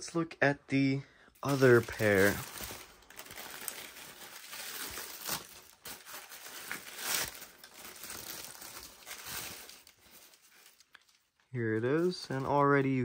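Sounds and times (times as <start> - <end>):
tissue paper crinkling: 1.4 - 12.6.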